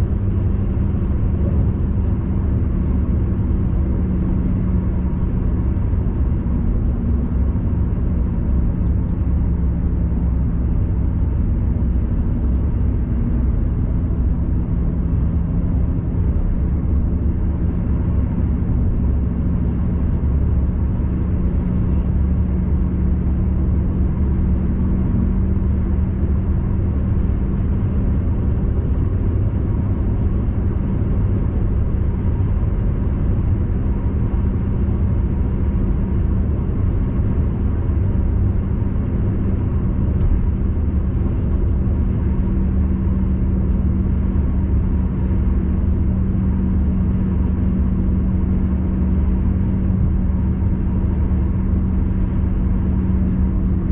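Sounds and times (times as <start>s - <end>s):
car road and engine noise: 0.0s - 53.9s.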